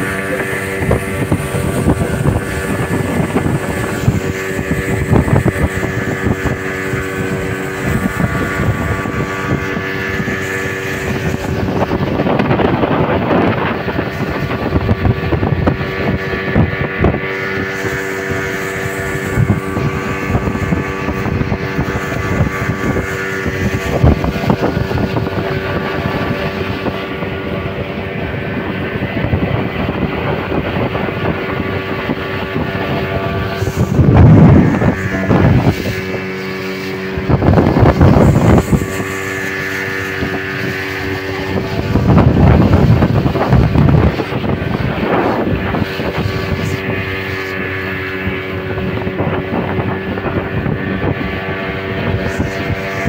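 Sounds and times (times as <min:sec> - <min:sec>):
motorboat engine droning: 0:00.0 - 0:53.0
wind buffeting microphone: 0:00.0 - 0:53.0.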